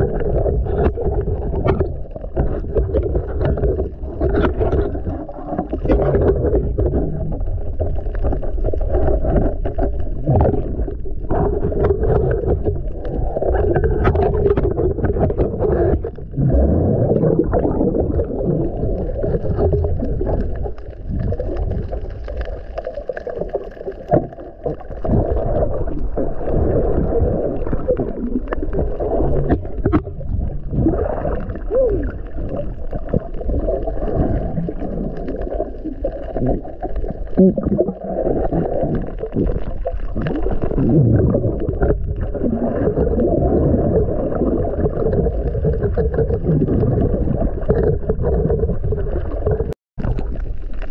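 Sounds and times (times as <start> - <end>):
underwater water rushing: 0.0 - 50.9.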